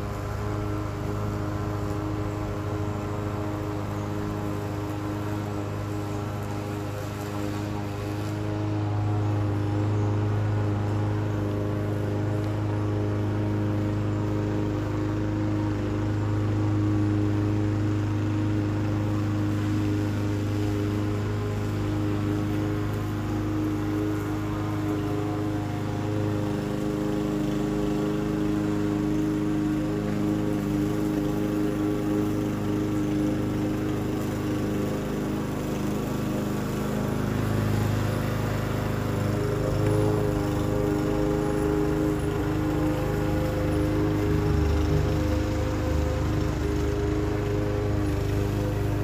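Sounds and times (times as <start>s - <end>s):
lawn mower engine running: 0.0s - 49.0s.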